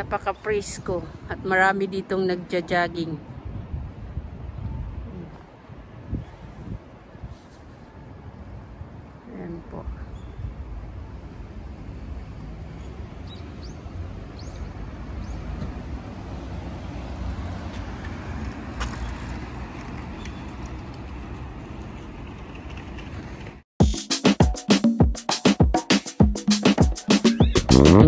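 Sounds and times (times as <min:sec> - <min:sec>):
street traffic rumble: 0:00.0 - 0:23.7.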